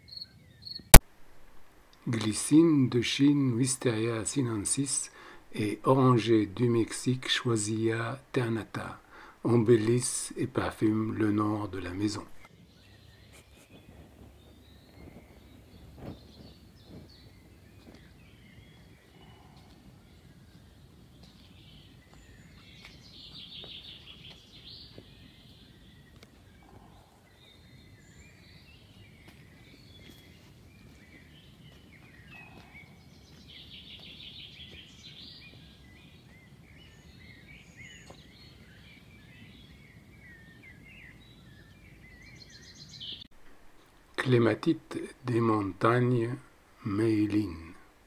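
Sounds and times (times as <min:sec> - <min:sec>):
songbirds singing and chirping: 0:00.0 - 0:01.0, 0:01.8 - 0:48.0.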